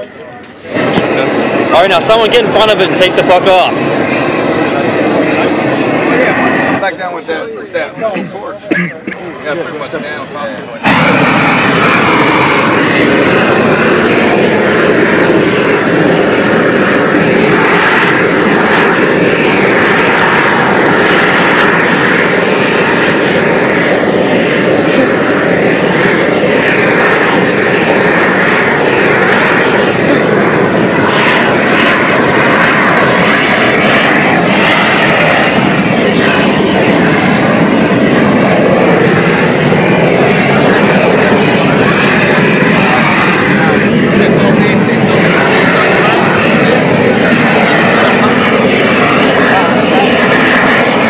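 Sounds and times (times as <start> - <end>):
torch flame roaring: 0.0 - 51.0.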